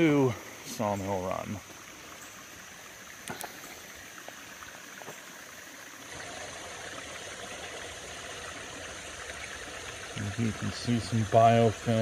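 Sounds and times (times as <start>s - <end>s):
water trickling over rocks: 0.0s - 12.0s.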